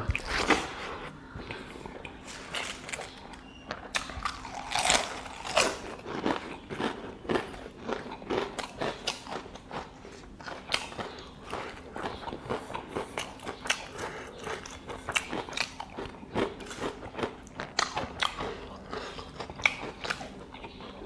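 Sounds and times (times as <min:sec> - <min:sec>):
chewing with crisp crunches: 0:00.0 - 0:21.0.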